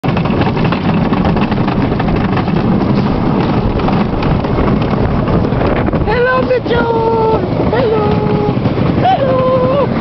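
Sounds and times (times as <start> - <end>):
roller coaster rumble and clatter: 0.0 - 10.0
wind on microphone: 0.0 - 10.0.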